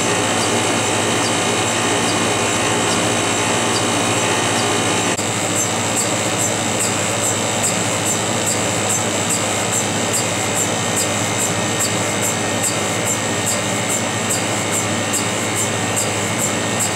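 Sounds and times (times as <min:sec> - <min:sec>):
machine hum and hiss: 0:00.0 - 0:16.9.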